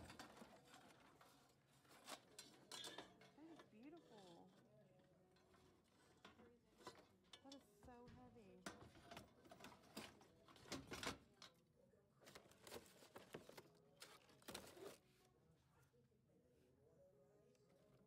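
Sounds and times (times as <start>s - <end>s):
faint clicks and rustles: 0.0s - 16.0s.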